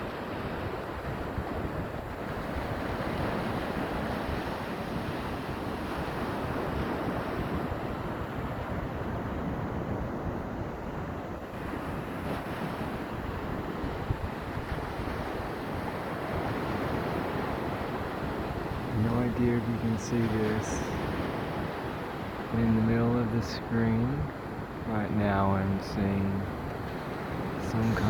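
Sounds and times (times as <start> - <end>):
wind buffeting microphone: 0.0 - 24.9
waves washing: 0.0 - 28.0.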